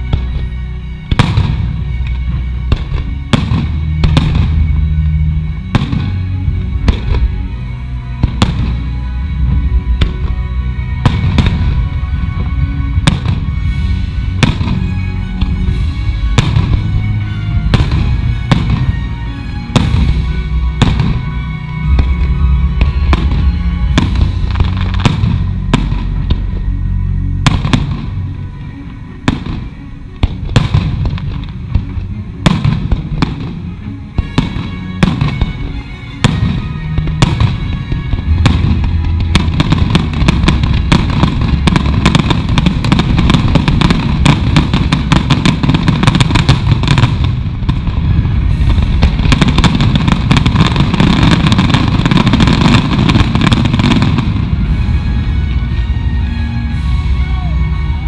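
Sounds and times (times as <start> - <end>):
music: 0.0 - 58.0.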